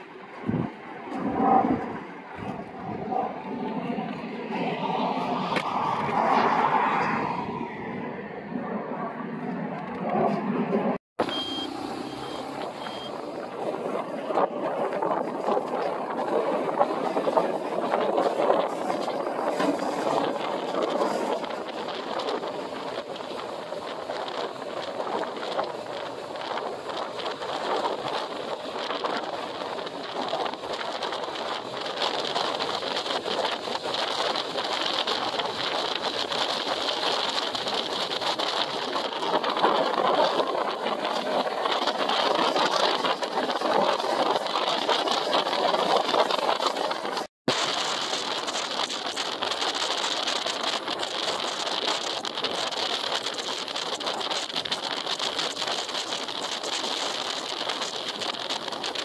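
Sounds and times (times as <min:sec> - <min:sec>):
distant jet engines roaring: 0:00.0 - 0:59.0.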